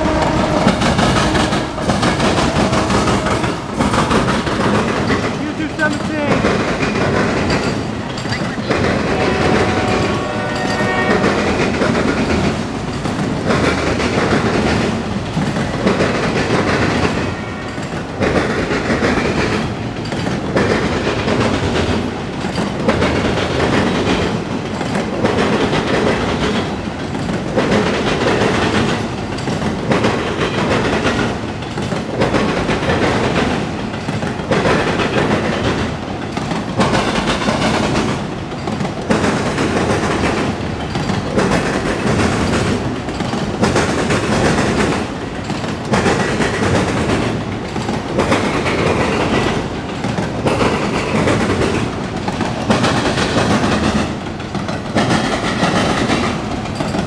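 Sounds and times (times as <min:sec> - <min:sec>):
freight train wheels rumbling: 0:00.0 - 0:57.0
rail clicks: 0:00.0 - 0:57.0.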